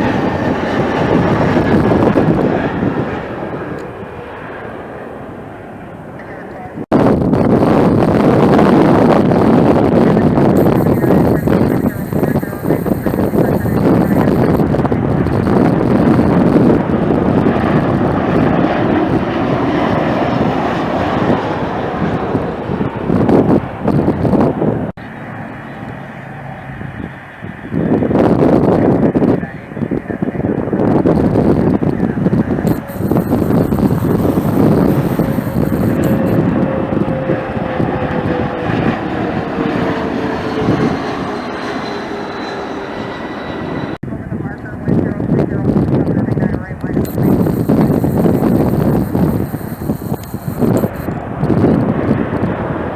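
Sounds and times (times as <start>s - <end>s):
wind buffeting microphone: 0.0s - 4.4s, 5.2s - 24.9s, 25.8s - 41.5s, 43.8s - 52.9s
jet engines roaring: 0.0s - 52.9s.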